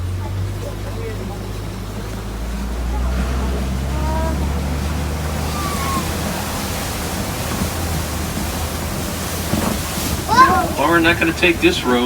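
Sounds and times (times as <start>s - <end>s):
low engine hum: 0.0s - 12.0s
wind and road noise: 0.0s - 12.0s.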